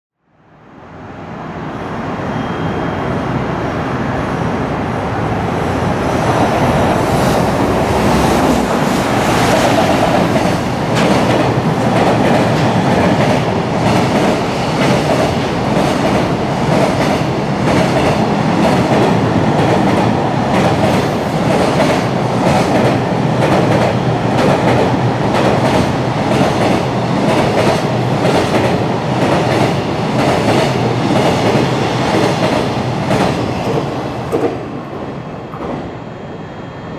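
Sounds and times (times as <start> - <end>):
freight train rumbling past: 0.4 - 36.9.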